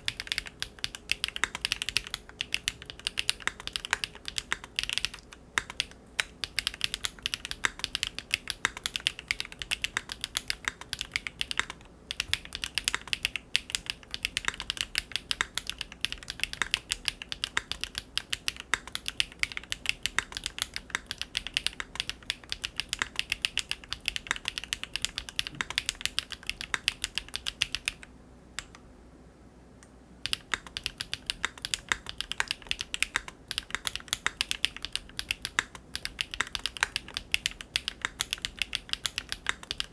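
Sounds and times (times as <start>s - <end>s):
fast typing on mechanical keyboard: 0.0s - 28.1s, 30.2s - 39.9s.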